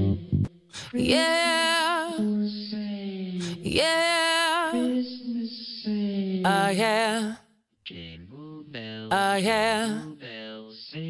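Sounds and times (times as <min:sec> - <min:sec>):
wordless singing with vibrato: 0:00.0 - 0:11.0.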